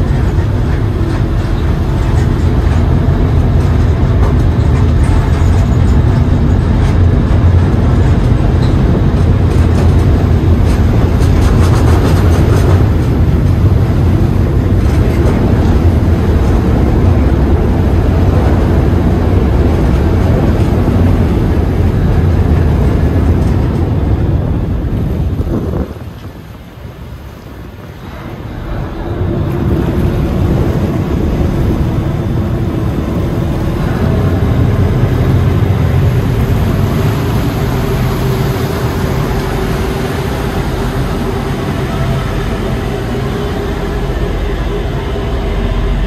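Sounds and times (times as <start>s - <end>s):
ship engines rumbling: 0.0s - 46.0s.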